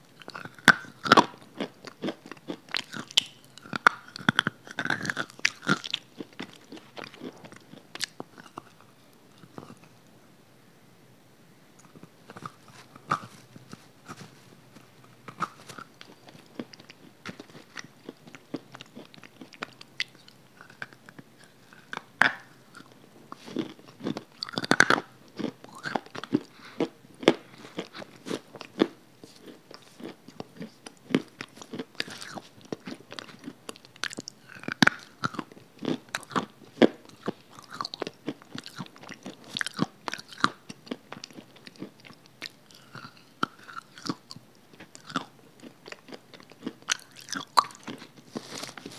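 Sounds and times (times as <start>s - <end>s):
crunchy chewing: 0.0s - 10.0s, 11.8s - 48.9s.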